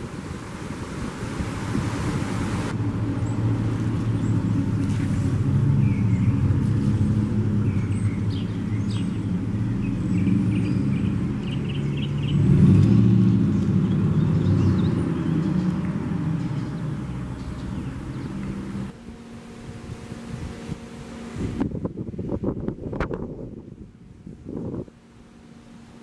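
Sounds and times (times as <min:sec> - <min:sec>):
engine humming steadily: 0:00.0 - 0:26.0.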